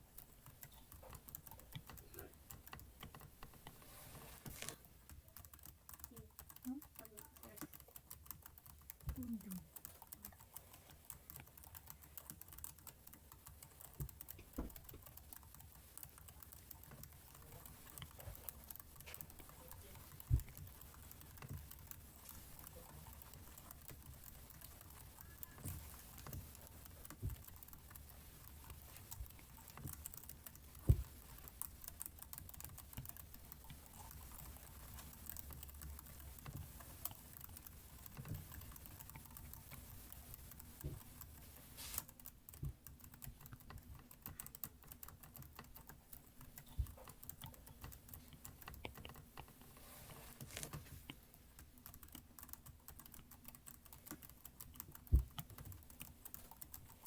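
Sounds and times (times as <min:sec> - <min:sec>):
keyboard keys clicking: 0:00.0 - 0:57.0.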